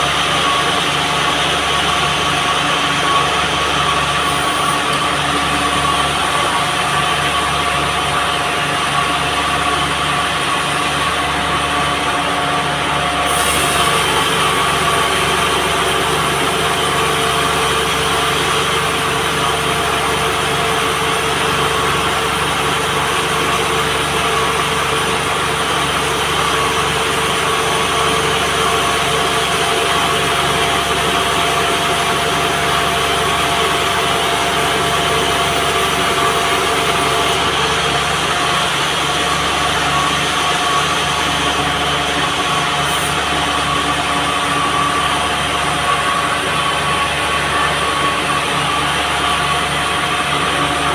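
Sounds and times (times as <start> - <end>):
band sawmill running: 0.0 - 50.9.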